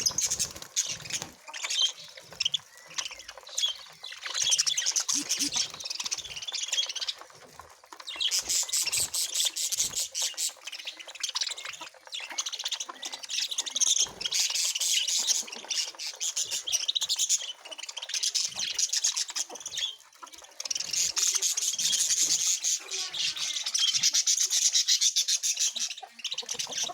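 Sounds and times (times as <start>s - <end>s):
birds chirping while feeding: 0.0s - 26.9s.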